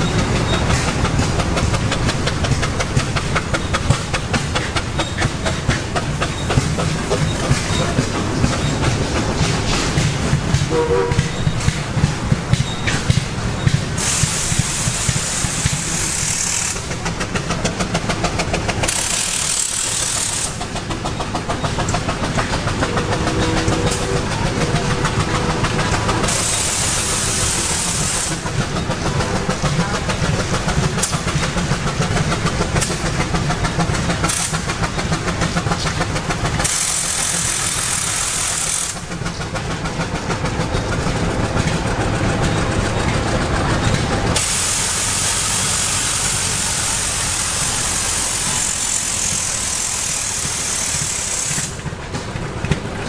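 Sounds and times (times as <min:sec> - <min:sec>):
engines chugging: 0:00.0 - 0:53.0.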